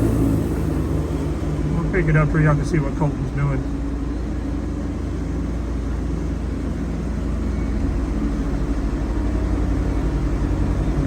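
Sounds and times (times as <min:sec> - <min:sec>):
band sawmill engine drone: 0:00.0 - 0:11.0.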